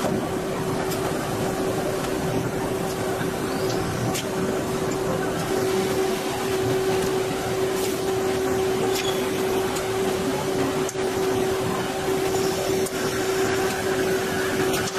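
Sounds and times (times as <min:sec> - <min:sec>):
even machine noise: 0:00.0 - 0:14.9
machine whine: 0:00.0 - 0:14.9.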